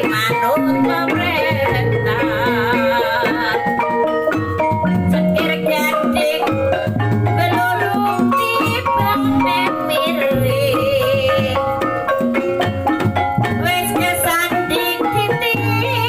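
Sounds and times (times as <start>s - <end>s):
hand drums beating: 0.0s - 16.0s
struck metal percussion: 0.0s - 16.0s
wavering melody line: 0.0s - 16.0s.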